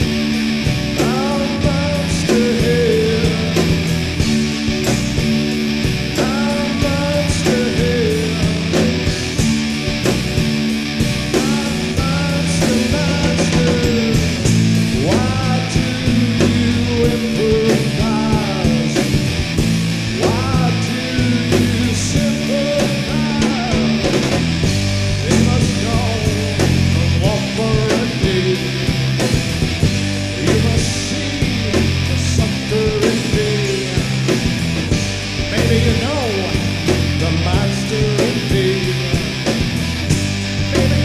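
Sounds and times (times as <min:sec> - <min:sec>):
bass and drums: 0:00.0 - 0:41.0.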